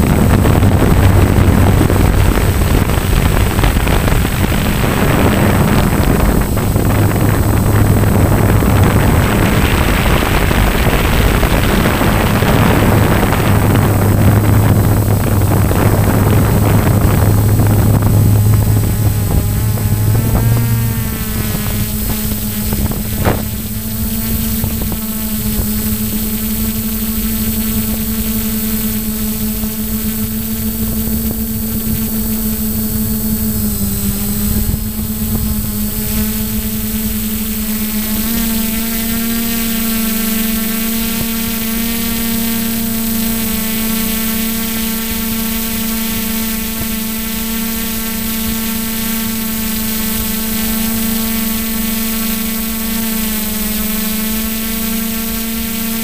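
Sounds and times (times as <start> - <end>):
model plane motor droning: 0.0 - 56.0.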